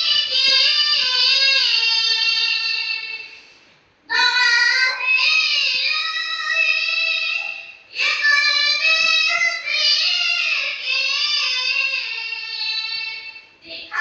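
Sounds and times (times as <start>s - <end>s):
person singing unaccompanied: 0.0s - 3.4s, 4.1s - 14.0s.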